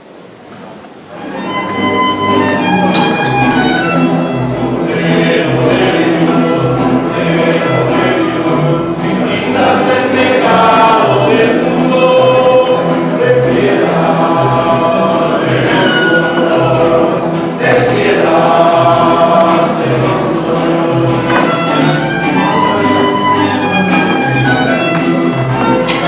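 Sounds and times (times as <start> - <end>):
instrumental accompaniment: 1.1 - 26.0
choir singing a hymn: 1.2 - 26.0.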